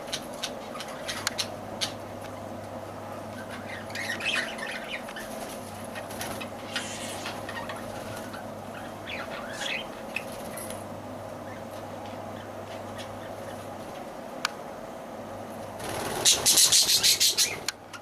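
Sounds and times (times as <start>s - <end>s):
steady low hum: 0.0s - 18.0s
lovebirds chirping and squawking: 0.1s - 2.1s, 3.2s - 13.9s, 15.8s - 17.7s.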